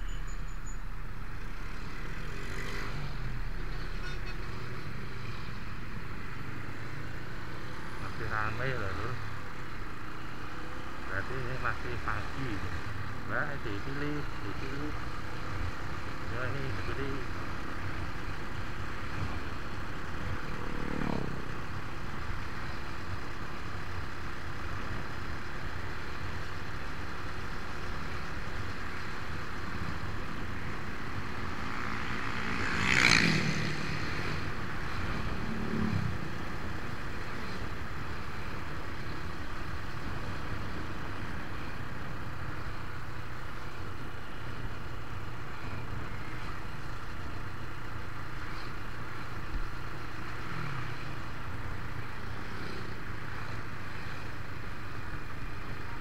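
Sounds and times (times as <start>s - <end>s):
engine and road noise: 0.0s - 56.0s
vehicles passing by: 0.0s - 56.0s.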